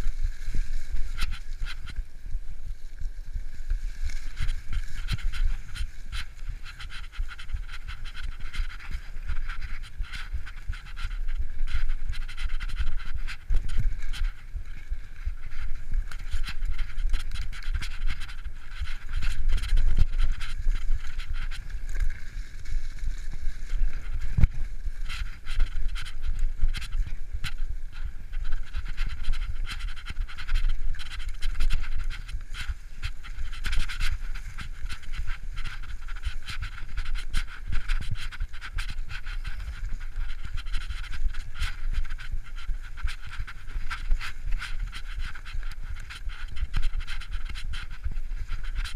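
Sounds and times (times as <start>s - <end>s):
bike rattling and knocking: 0.0s - 2.2s, 2.8s - 48.9s.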